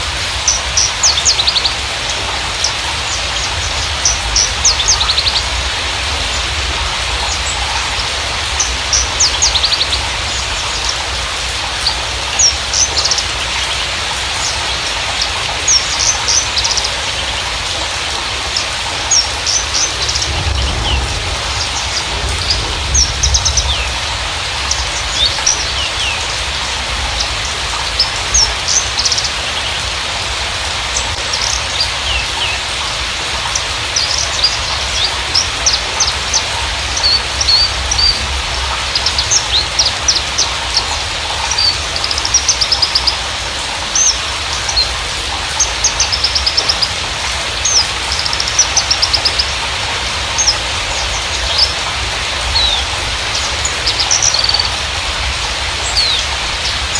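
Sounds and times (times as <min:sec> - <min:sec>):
bird singing chirps and trills: 0:00.4 - 0:30.0, 0:30.8 - 0:49.6, 0:50.3 - 0:56.9.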